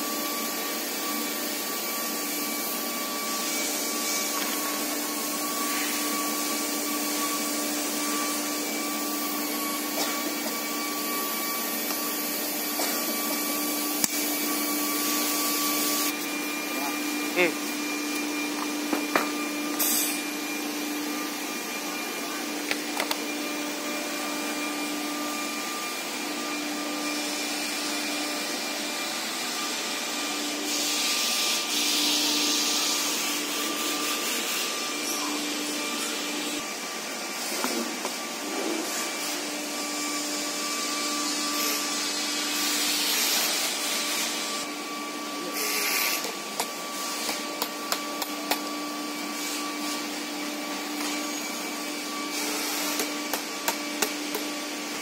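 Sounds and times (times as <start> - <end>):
workshop machinery drone: 0.0 - 55.0.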